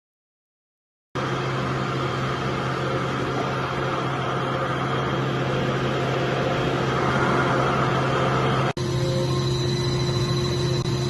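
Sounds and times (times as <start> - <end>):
steady mechanical hum: 1.2 - 11.0.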